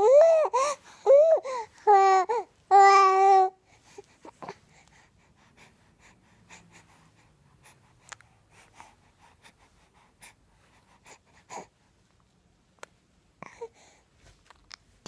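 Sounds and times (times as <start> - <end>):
baby breathing faintly: 0.0 - 12.1, 13.4 - 14.5.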